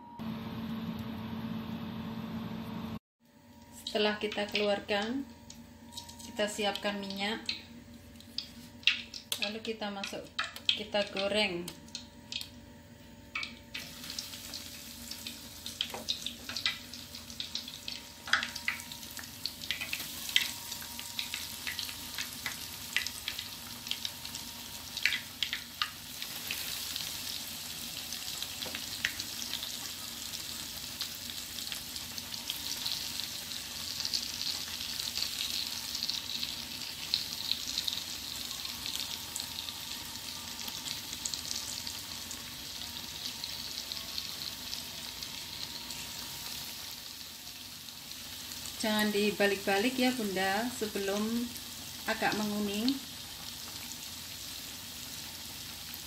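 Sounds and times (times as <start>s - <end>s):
potatoes frying in hot oil: 3.8s - 5.2s, 5.9s - 12.6s, 13.4s - 56.0s.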